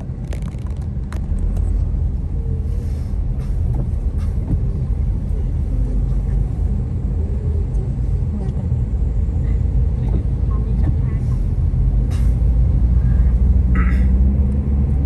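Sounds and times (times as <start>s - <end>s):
car driving rumble: 0.0s - 15.0s
tyres on wet road: 0.0s - 15.0s.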